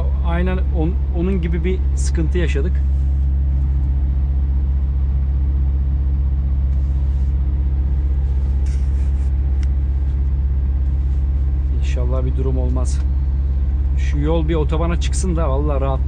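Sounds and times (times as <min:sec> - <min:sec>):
truck diesel engine drone: 0:00.0 - 0:16.0.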